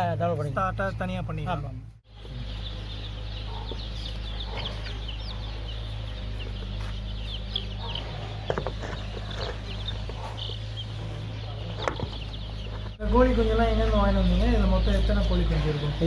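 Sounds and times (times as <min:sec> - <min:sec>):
chicks peeping: 0:00.0 - 0:16.0
steady low hum: 0:00.0 - 0:16.0.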